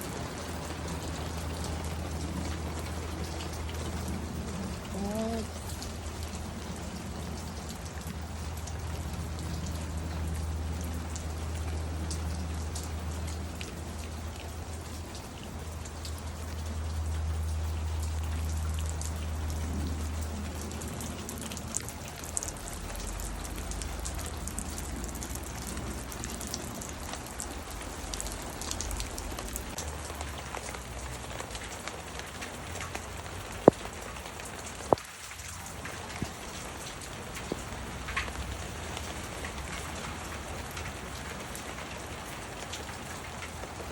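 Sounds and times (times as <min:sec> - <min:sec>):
heavy rain falling: 0:00.0 - 0:43.9
sharp drips: 0:00.0 - 0:43.9.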